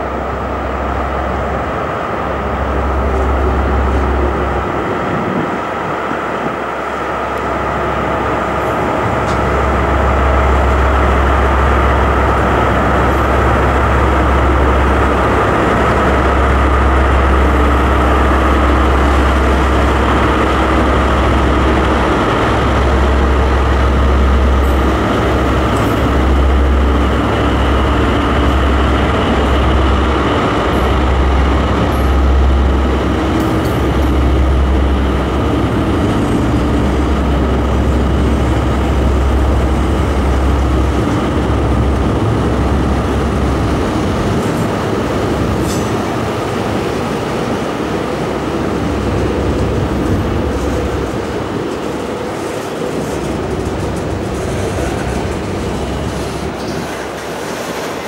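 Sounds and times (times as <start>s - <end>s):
locomotive engine hum: 0.0s - 58.0s
wagons rolling on rails: 7.2s - 58.0s.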